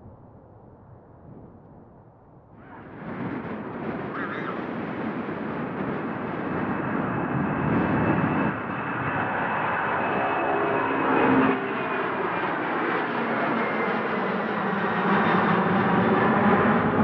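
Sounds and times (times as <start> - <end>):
jet engines roaring: 2.6 - 17.0.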